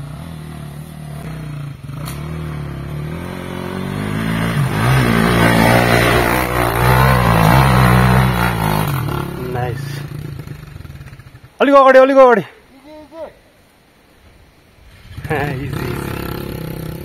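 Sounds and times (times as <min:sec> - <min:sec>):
motorcycle engine revving: 0:00.0 - 0:11.6, 0:14.9 - 0:17.0.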